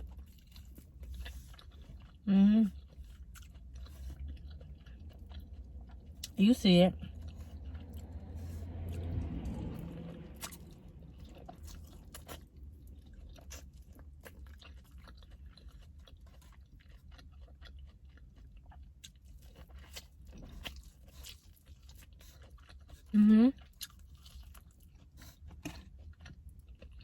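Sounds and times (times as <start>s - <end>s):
person chewing and crunching food: 0.0s - 27.0s.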